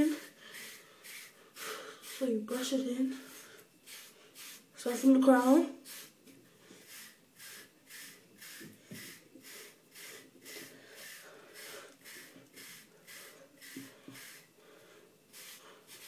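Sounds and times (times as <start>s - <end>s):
hair brush swishing through hair: 0.0s - 5.0s, 6.8s - 14.5s, 15.3s - 16.0s.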